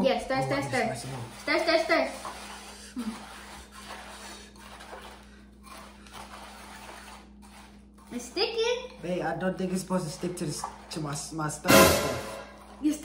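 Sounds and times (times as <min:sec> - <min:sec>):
spoon stirring sticky cereal: 0:00.8 - 0:11.2.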